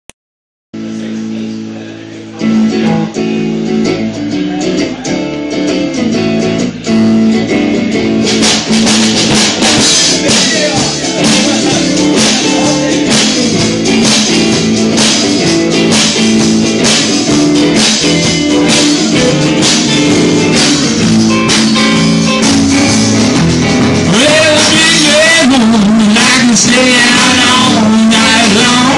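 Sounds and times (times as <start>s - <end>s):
electric guitars and bass: 0.8s - 28.9s
drum kit and cymbals: 2.4s - 28.9s.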